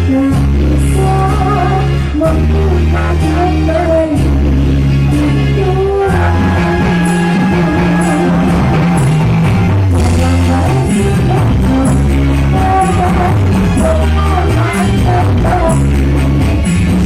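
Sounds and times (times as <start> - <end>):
person singing: 0.0 - 16.9
bass line: 0.0 - 17.0
live band playing amplified music: 0.0 - 17.0.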